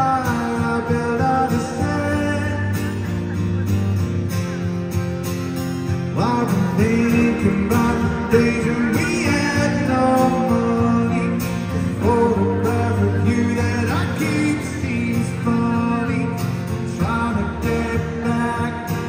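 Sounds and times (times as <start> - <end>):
man singing: 0.0 - 3.3, 6.1 - 19.0
acoustic guitar chords: 0.0 - 19.0.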